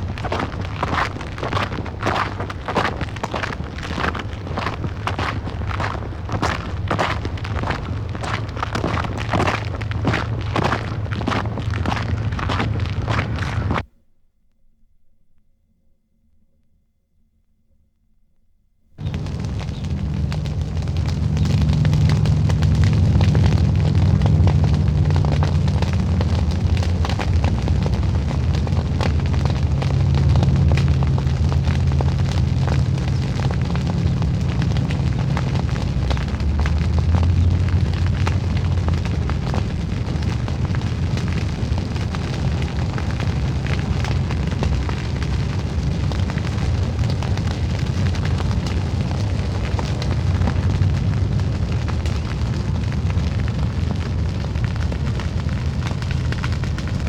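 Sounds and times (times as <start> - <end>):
fire crackling and popping: 0.0 - 13.9, 19.0 - 57.0
low fire roar: 0.0 - 13.9, 19.0 - 57.0.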